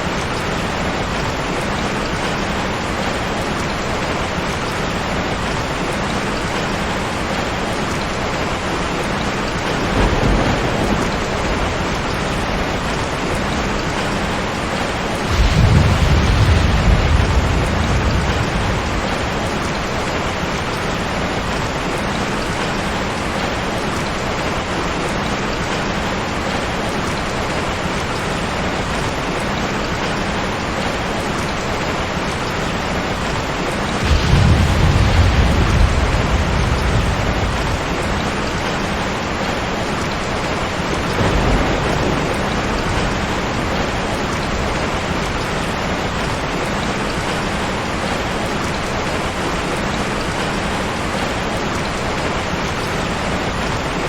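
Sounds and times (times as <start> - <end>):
heavy rain: 0.0 - 54.0
thunder rumbling: 0.1 - 23.4, 30.1 - 51.4.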